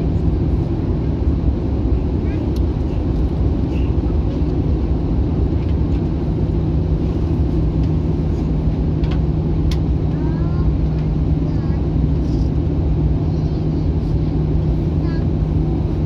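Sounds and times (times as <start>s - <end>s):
aircraft engine drone: 0.0s - 16.0s.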